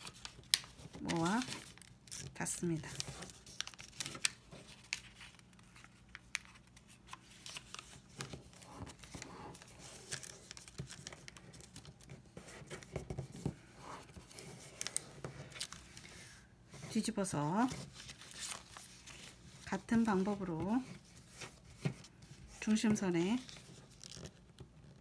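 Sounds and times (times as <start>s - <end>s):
paper crinkling and rustling: 0.0s - 25.0s.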